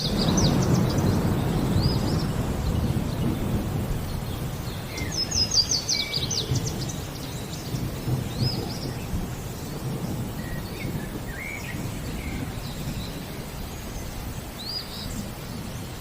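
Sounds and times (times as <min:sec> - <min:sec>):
birds calling: 0:00.0 - 0:16.0
rain: 0:00.0 - 0:16.0
rolling thunder: 0:00.0 - 0:16.0.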